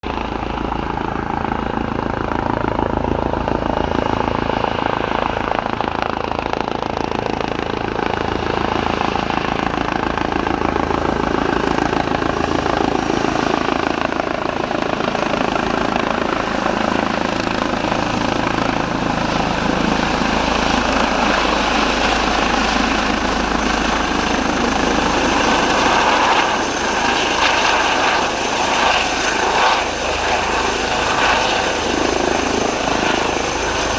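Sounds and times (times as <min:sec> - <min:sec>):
helicopter engine whine and rotors: 0:00.0 - 0:33.9.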